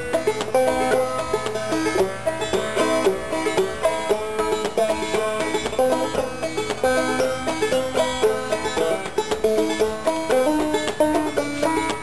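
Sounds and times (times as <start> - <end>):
banjo plucking a tune: 0.0 - 12.0.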